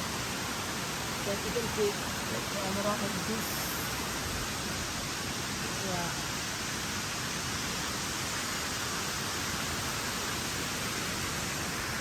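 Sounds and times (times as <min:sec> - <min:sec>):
water falling and cascading: 0:00.0 - 0:12.0.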